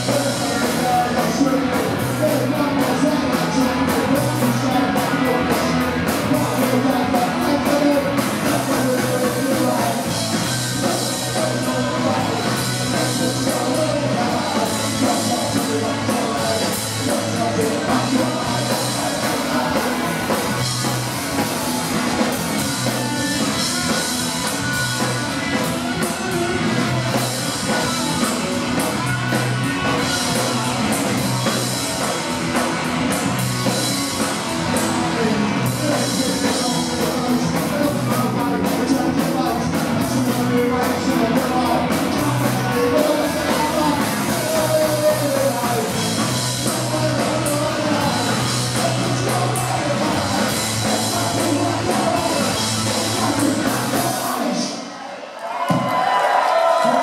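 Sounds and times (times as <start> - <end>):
person singing: 0.0 - 32.8, 33.6 - 54.8
electric guitar: 0.0 - 54.9
drums: 0.0 - 57.0.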